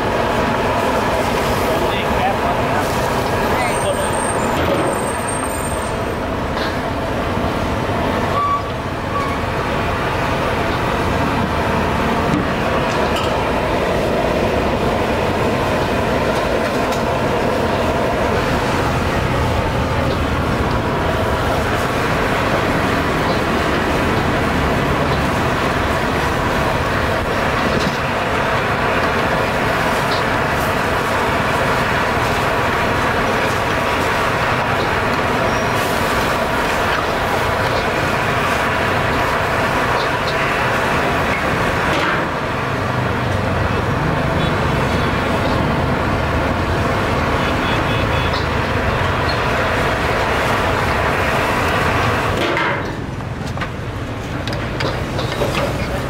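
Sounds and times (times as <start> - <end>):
meat boiling in a wok: 0.0 - 3.5, 5.2 - 47.4, 48.6 - 56.0
gas burner roaring: 0.0 - 56.0.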